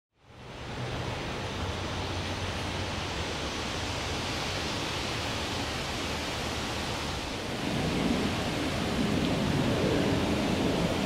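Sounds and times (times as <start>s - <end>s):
steady rushing noise: 0.2s - 11.0s.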